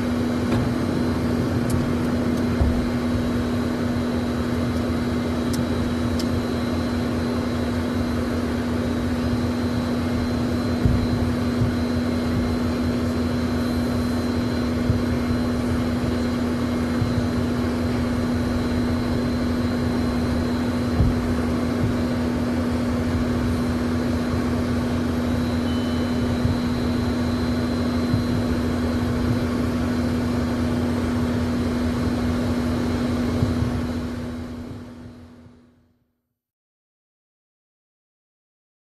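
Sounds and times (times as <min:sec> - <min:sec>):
jet engines humming: 0:00.0 - 0:35.4.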